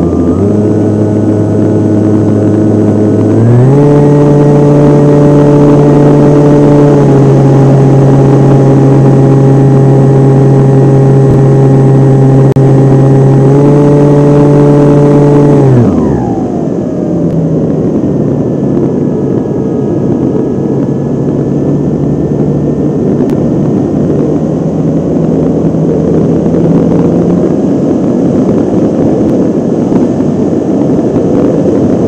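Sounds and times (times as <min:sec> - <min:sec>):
model airplane motor humming: 0:00.0 - 0:32.0.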